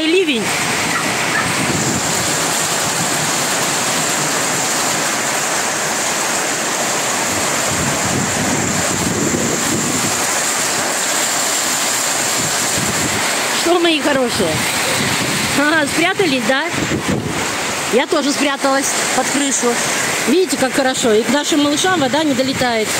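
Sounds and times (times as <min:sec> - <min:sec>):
rain on corrugated roof: 0:00.0 - 0:22.9
water pouring off roof: 0:00.0 - 0:22.9.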